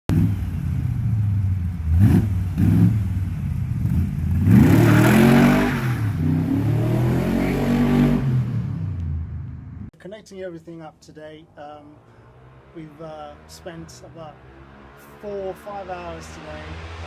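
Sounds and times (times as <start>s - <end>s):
car engine idling and revving: 0.1s - 9.9s, 11.8s - 17.0s.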